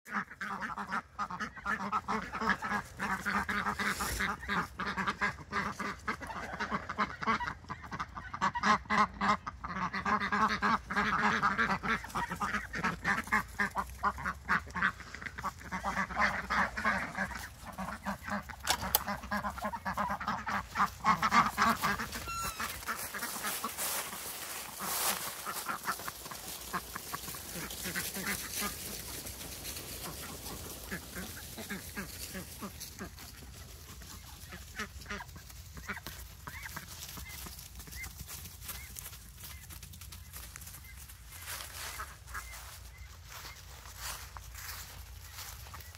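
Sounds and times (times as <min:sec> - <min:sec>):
ducks quacking: 0:00.1 - 0:45.9.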